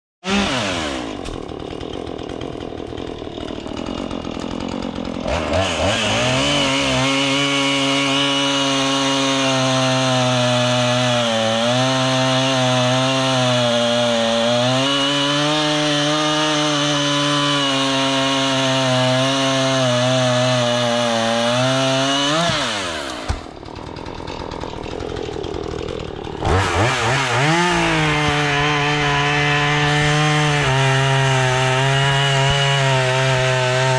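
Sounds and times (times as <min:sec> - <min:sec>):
chainsaw idling and revving: 0:00.2 - 0:33.9.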